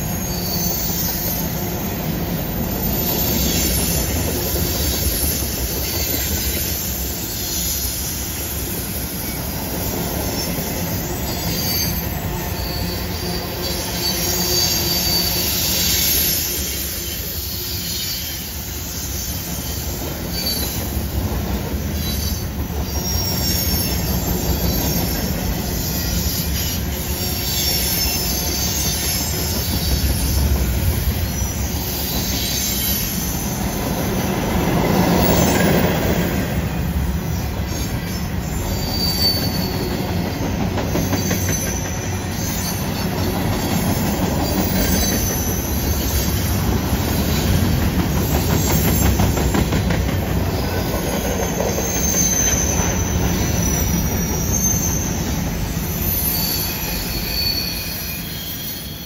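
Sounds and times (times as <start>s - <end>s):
high wheel squeal: 0.0s - 59.0s
train wheels clattering on rails: 0.0s - 59.0s.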